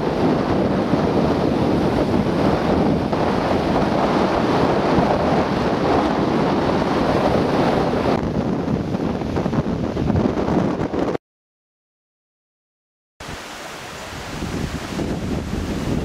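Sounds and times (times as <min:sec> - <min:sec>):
sea surf breaking: 0:00.0 - 0:11.2, 0:13.2 - 0:16.0
wind buffeting microphone: 0:00.0 - 0:11.2, 0:13.2 - 0:16.0.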